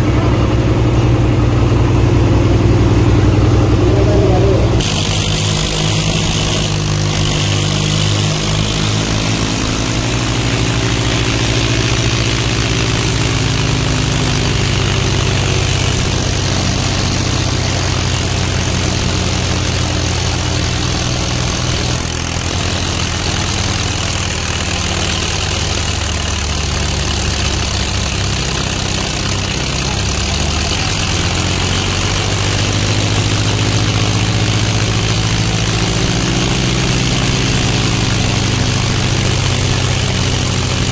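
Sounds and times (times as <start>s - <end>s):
tractor diesel engines under load: 0.0s - 40.9s.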